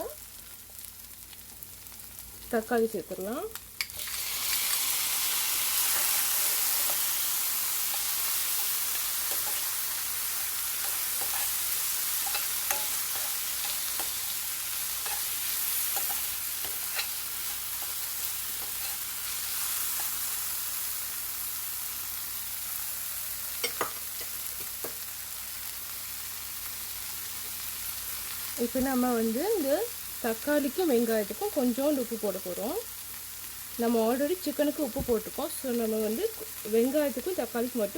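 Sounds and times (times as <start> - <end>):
vegetables sizzling in hot oil: 0.0 - 37.9.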